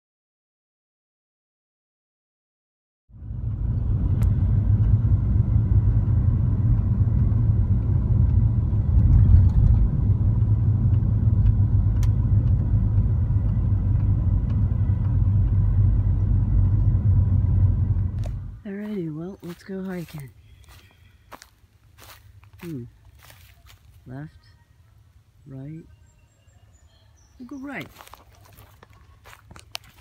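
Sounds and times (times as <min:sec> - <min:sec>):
car engine and tyre rumble: 0:03.1 - 0:24.3, 0:27.2 - 0:30.0.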